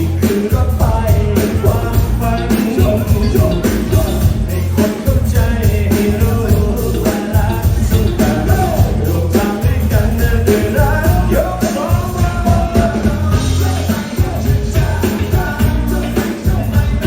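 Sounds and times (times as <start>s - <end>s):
person singing: 0.0s - 17.0s
rock and roll band playing: 0.0s - 17.0s.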